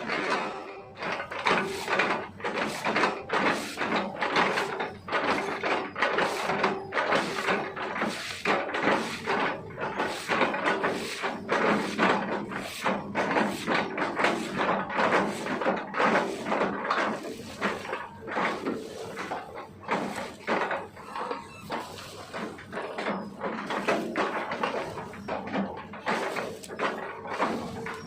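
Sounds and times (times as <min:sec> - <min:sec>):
wood splitting crunches: 0:00.0 - 0:28.0.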